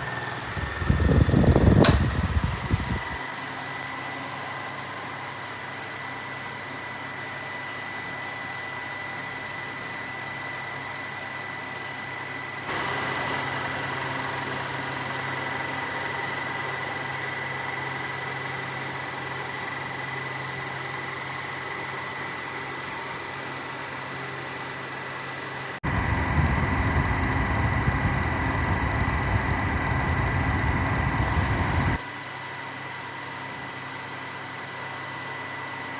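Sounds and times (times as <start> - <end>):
box fan running: 0.0 - 35.9.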